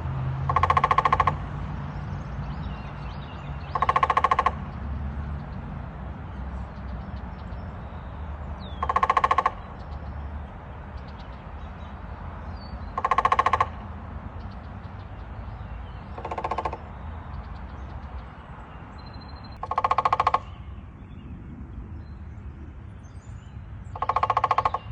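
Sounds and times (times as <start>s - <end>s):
woodpecker drumming on hollow trunk: 0.0s - 7.6s, 8.3s - 20.7s, 23.9s - 24.9s.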